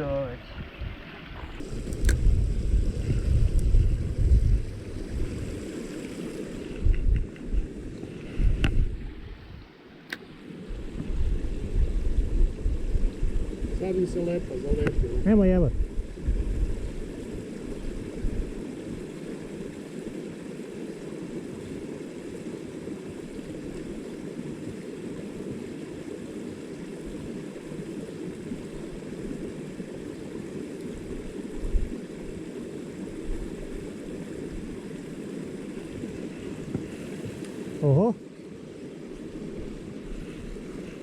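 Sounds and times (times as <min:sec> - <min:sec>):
stream water running: 0:00.0 - 0:41.0.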